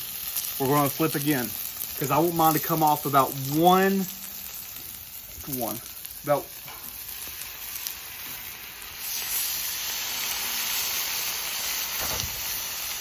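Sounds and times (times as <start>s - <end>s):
steaks sizzling on a griddle: 0.0s - 13.0s.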